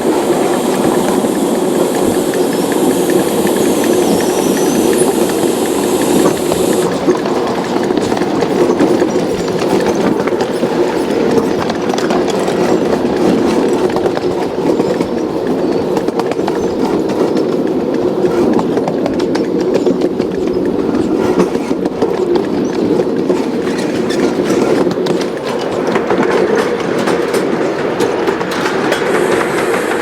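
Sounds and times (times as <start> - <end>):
train rumbling: 0.0 - 30.0
wheels clicking over rail: 0.0 - 30.0.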